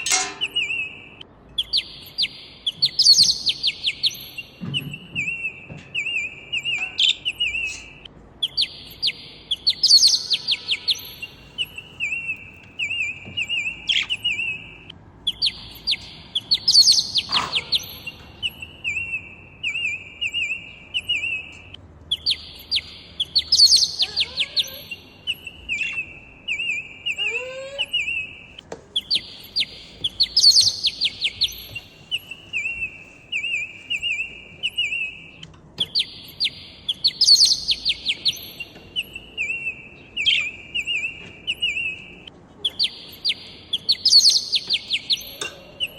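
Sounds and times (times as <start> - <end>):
parrots chirping and twittering: 0.0 - 45.9.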